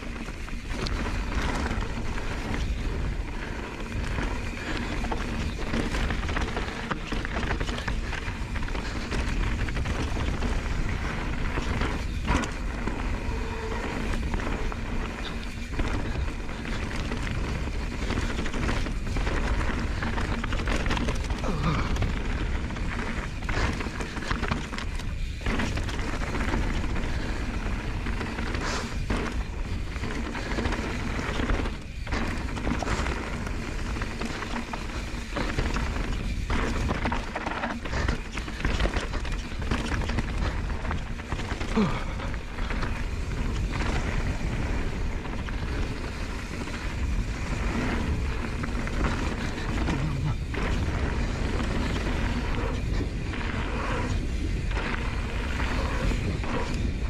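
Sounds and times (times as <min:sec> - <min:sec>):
tyres crunching over stones: 0:00.0 - 0:56.7
bike knocking and rattling on rocks: 0:00.0 - 0:57.0
wind rumble on microphone: 0:00.0 - 0:57.0.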